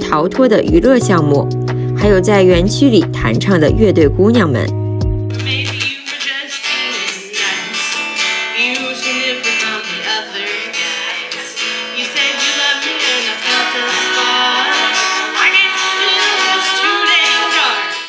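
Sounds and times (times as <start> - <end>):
woman singing: 0.0 - 4.7, 5.3 - 18.0
acoustic guitars strummed: 0.1 - 18.0.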